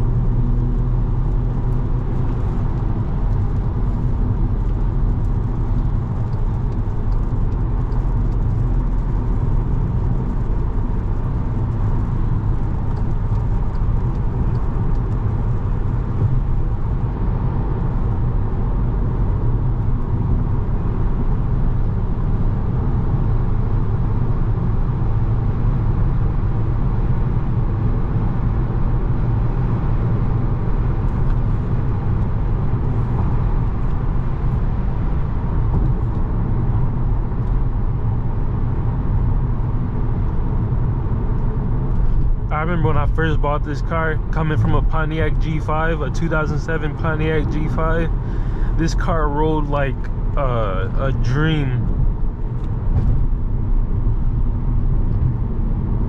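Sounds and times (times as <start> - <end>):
car engine drone and road noise: 0.0 - 56.0.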